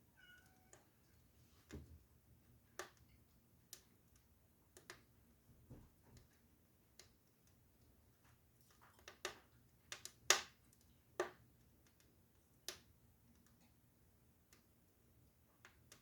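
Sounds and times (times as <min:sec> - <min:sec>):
wood fire crackling and popping: 0:02.7 - 0:16.0.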